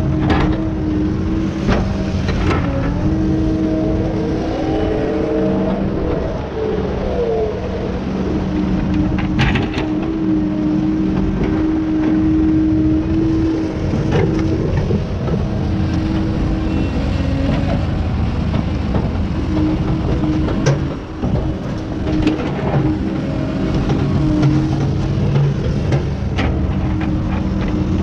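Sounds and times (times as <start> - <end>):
heavy machinery engine humming: 0.0 - 28.0.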